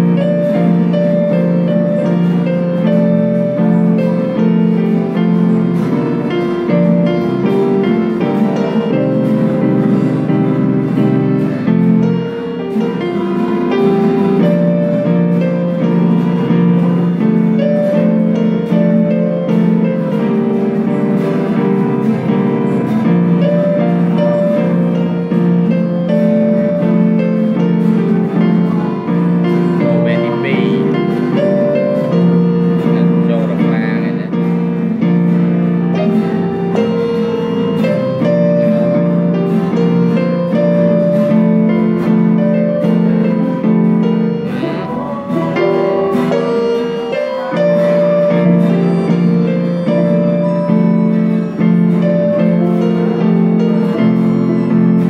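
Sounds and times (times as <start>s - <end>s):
electronic keyboard melody and chords: 0.0s - 55.0s.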